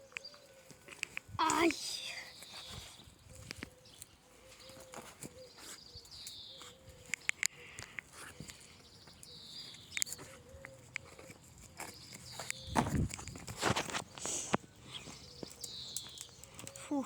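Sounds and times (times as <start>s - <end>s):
knocks and scrapes on branches: 0.6s - 17.0s.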